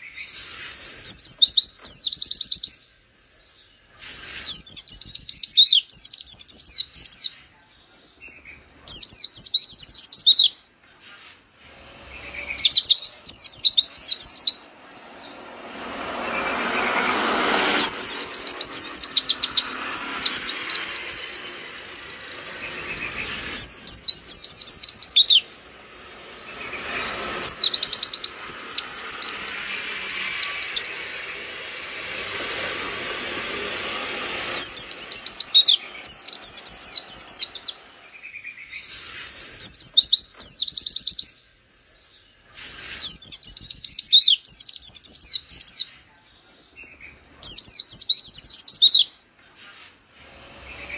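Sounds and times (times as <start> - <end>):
bird twittering rapidly: 0.0 - 50.9.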